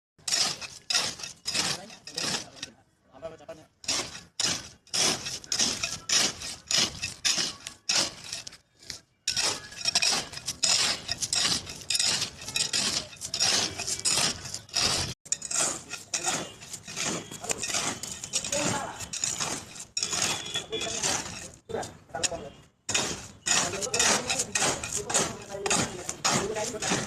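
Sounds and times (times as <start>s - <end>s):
metal tools scraping and clinking: 0.2s - 2.8s, 3.8s - 27.0s.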